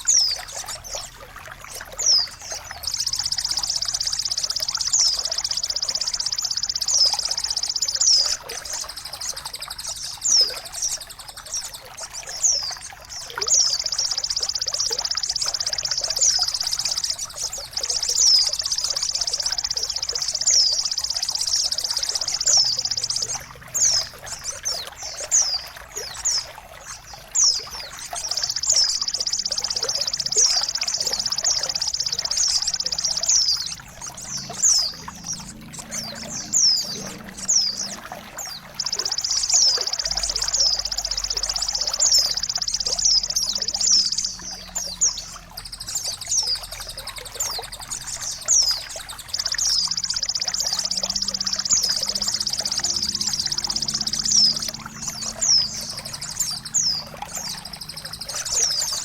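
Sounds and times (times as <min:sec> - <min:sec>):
trickling water: 0:00.0 - 0:59.0
bird whistling: 0:01.7 - 0:11.4, 0:12.3 - 0:25.7, 0:27.4 - 0:59.0.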